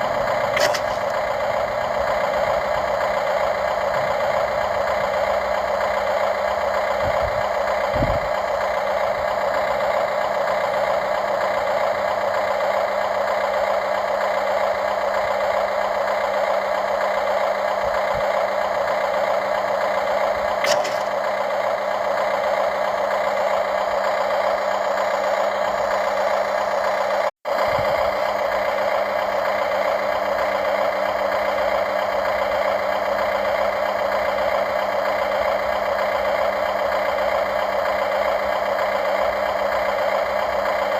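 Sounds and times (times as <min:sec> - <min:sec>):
model excavator mechanical whine: 0:00.0 - 0:40.9.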